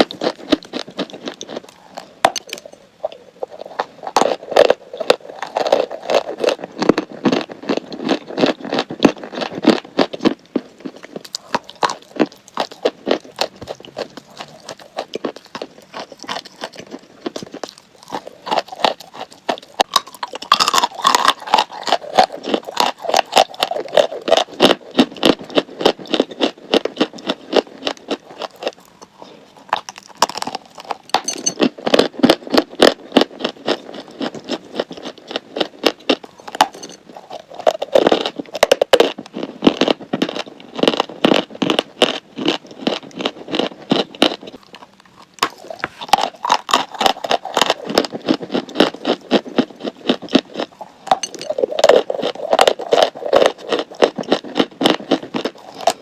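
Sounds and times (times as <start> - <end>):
chalk crunching while chewed: 0.0 - 56.0.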